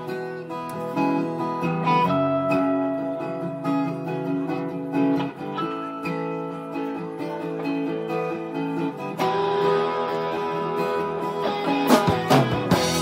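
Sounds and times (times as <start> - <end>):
strummed acoustic guitar: 0.0 - 13.0
sustained electric guitar notes: 0.0 - 13.0.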